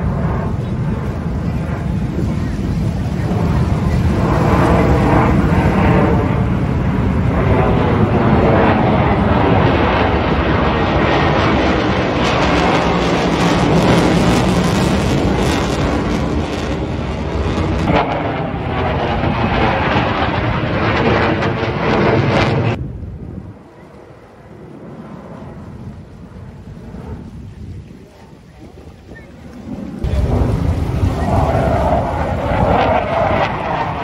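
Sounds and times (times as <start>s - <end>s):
fighter jet rumble with crackling: 0.0s - 34.0s.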